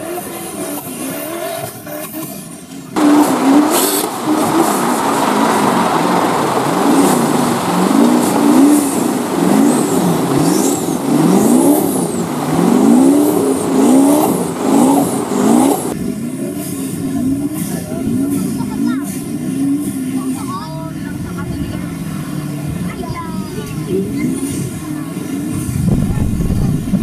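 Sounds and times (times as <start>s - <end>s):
off-road engine revving: 0.0s - 27.0s
water spray from tyres: 0.0s - 27.0s.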